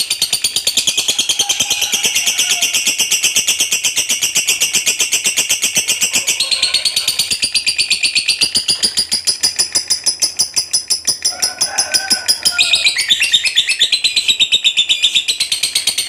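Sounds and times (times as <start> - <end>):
bird chattering chirps: 0.0 - 16.0.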